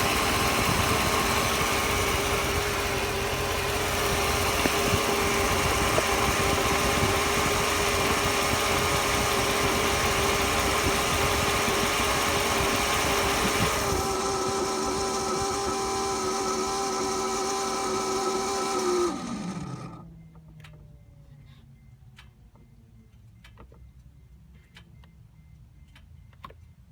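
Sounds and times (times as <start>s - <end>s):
car engine whining: 0.0s - 21.9s.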